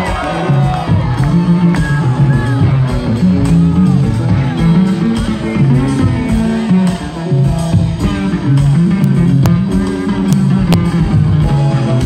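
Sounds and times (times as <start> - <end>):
live band music: 0.0 - 12.0
plucked double bass: 0.0 - 12.0.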